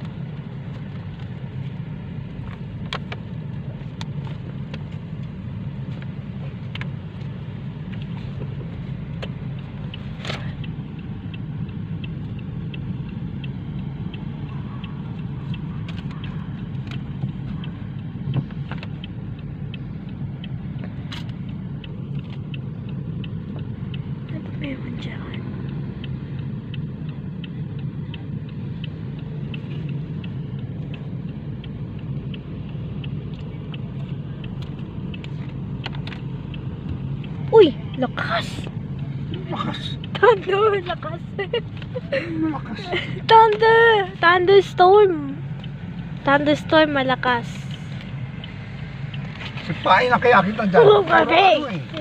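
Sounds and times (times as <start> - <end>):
car road and engine noise: 0.0 - 52.0
faint regular ticking: 0.0 - 52.0.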